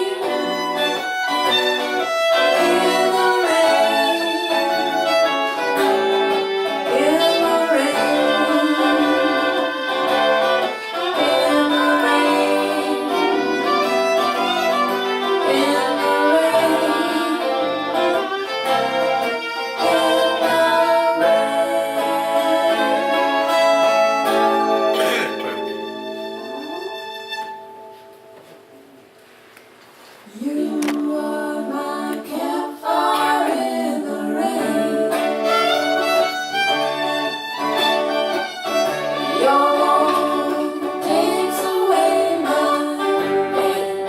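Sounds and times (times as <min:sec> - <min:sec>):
fiddle melody: 0:00.0 - 0:28.8, 0:30.9 - 0:44.0
acoustic folk music: 0:00.0 - 0:44.0.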